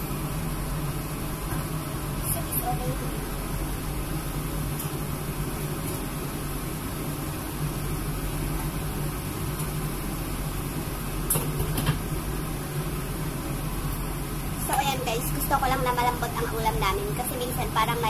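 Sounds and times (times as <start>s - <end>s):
range hood fan humming: 0.0s - 18.0s.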